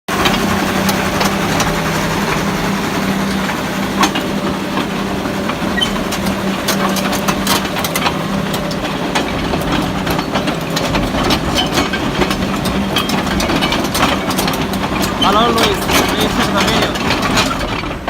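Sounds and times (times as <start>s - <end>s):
bulldozer diesel engine idling: 0.1s - 18.0s
light clicks and knocks: 0.2s - 18.0s.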